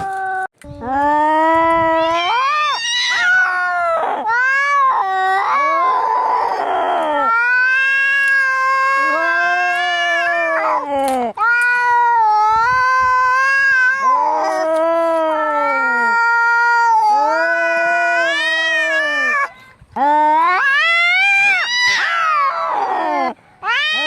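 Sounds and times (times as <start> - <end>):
cats yowling: 1.4 - 19.5, 20.1 - 24.0.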